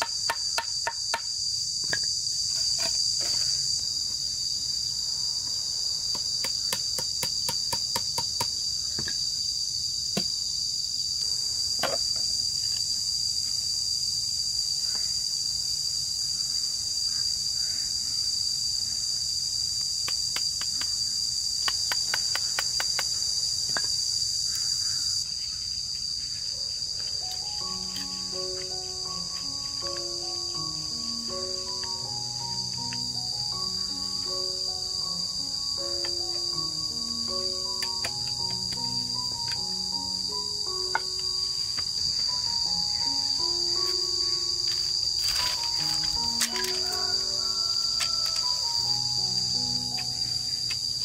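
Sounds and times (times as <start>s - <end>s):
high-pitched insect drone: 0.0s - 51.0s.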